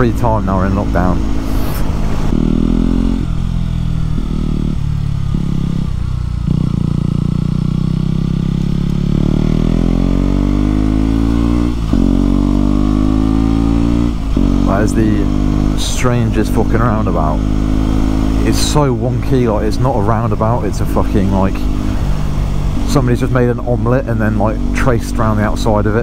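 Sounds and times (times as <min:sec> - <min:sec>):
motorcycle engine: 0:00.0 - 0:26.0.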